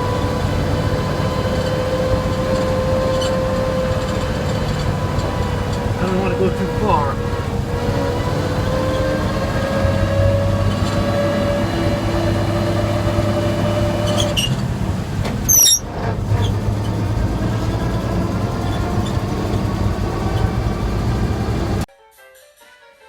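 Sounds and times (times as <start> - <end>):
loud high-pitched squeak: 0.0 - 14.6, 15.4 - 21.3
truck engine running: 0.0 - 21.9.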